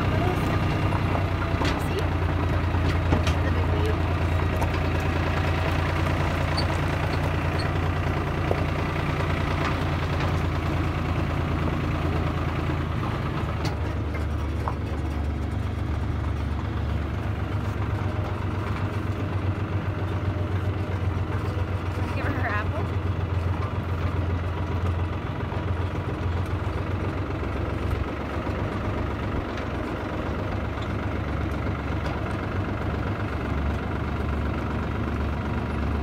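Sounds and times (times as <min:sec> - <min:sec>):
tractor engine droning: 0:00.0 - 0:36.0.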